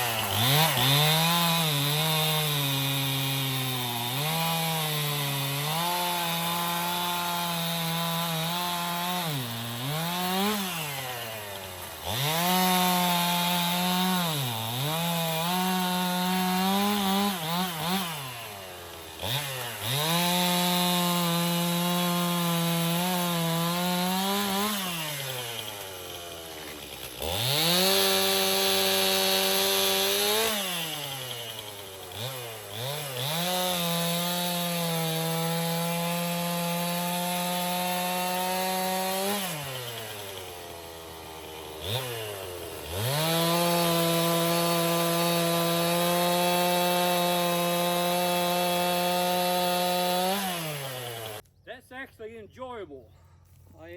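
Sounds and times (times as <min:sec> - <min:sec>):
chainsaw cutting log: 0:00.0 - 0:52.0.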